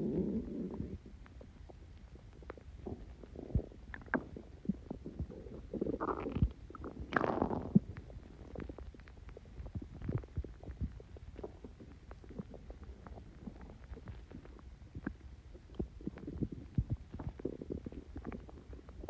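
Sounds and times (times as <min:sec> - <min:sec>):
stomach gurgling and rumbling: 0:00.0 - 0:19.0.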